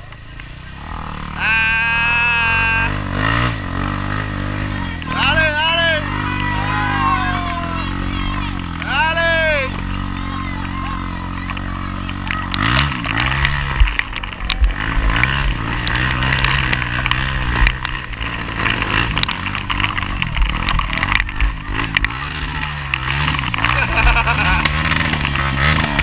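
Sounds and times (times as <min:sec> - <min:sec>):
quad engine revving: 0:00.0 - 0:26.0.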